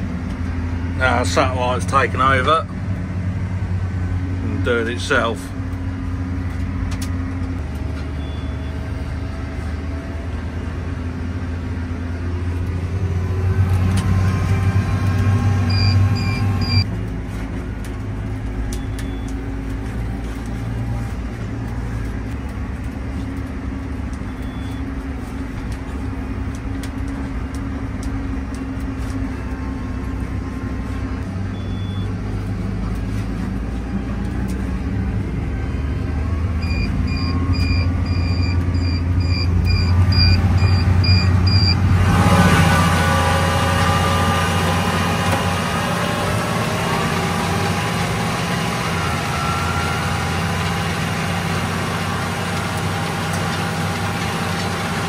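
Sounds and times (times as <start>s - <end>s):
tractor engine running under load: 0.0s - 55.0s.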